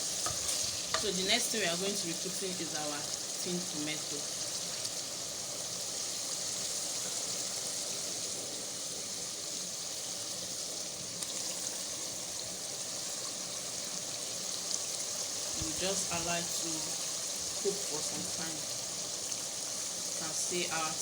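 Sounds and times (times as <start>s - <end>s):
stew sizzling in oil: 0.0s - 21.0s.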